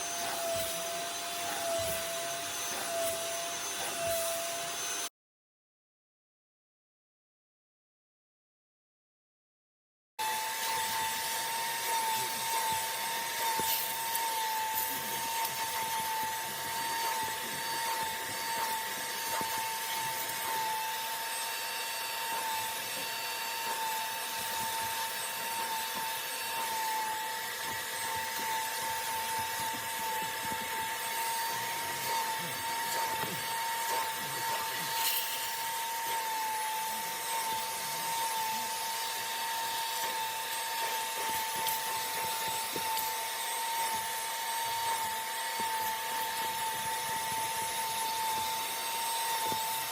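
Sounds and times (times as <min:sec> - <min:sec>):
vacuum motor whining: 0:00.0 - 0:05.1, 0:10.2 - 0:49.9.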